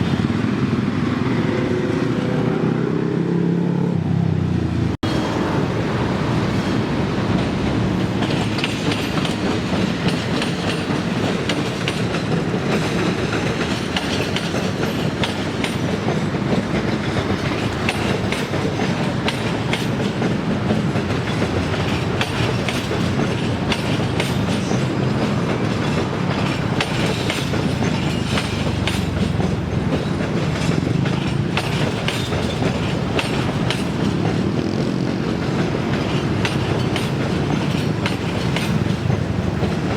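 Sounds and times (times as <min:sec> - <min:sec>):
train rolling past: 0:00.0 - 0:39.9
wheels clacking over rail joints: 0:05.0 - 0:39.9.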